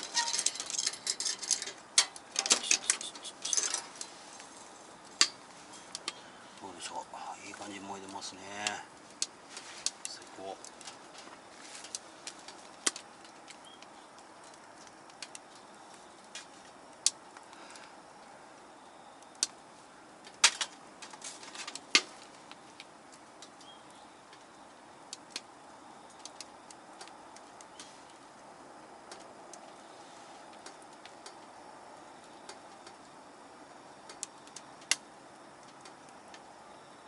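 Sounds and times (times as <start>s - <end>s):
firewood crackling and popping: 0.0s - 37.0s
low hiss of fire: 0.0s - 37.0s.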